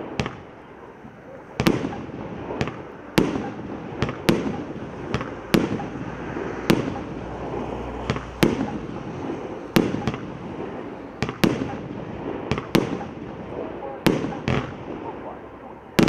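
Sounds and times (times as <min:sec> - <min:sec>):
firework bangs: 0:00.0 - 0:16.0
noisy haze: 0:00.0 - 0:16.0.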